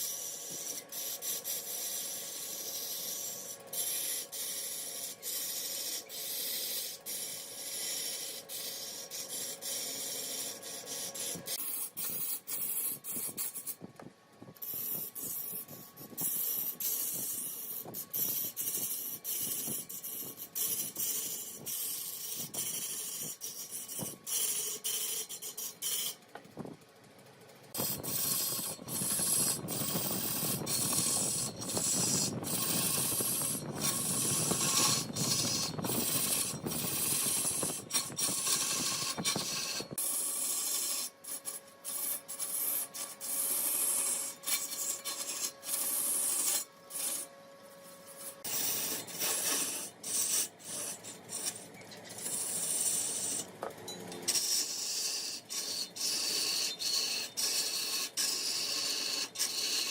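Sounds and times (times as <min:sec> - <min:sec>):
wood lathe turning: 0:00.0 - 0:26.6, 0:27.6 - 0:59.9
turning tool scraping wood: 0:00.0 - 0:26.8, 0:27.7 - 0:59.9.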